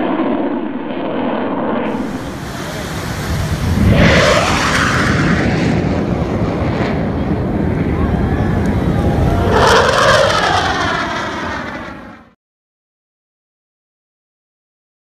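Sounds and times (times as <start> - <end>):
jet aircraft roaring overhead: 0.0 - 12.4.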